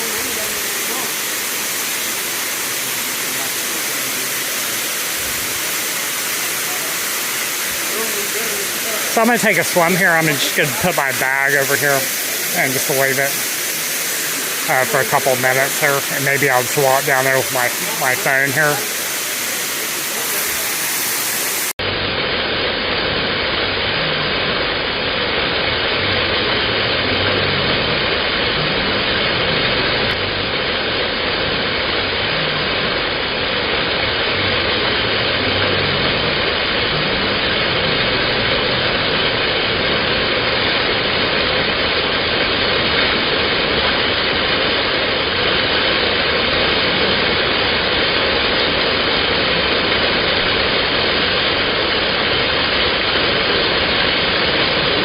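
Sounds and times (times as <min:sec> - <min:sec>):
waterfall rushing: 0:00.0 - 0:22.8, 0:27.8 - 0:55.0.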